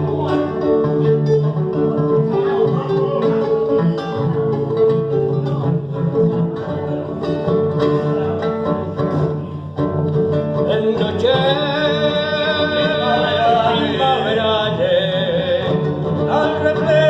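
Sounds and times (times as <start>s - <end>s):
plucked guitar: 0.0s - 17.0s.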